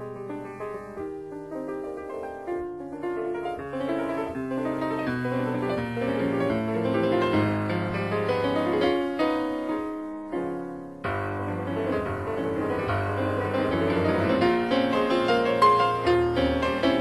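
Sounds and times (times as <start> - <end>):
piano music with sustained chords: 0.0 - 17.0.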